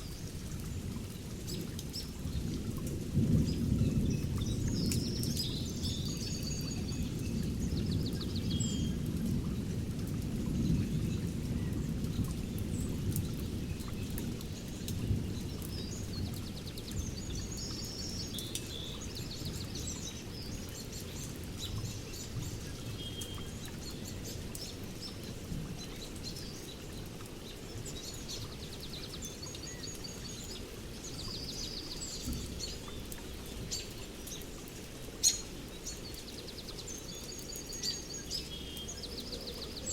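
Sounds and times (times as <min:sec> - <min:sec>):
rain rumble: 0:00.0 - 0:39.9
songbirds chirping: 0:00.0 - 0:39.9.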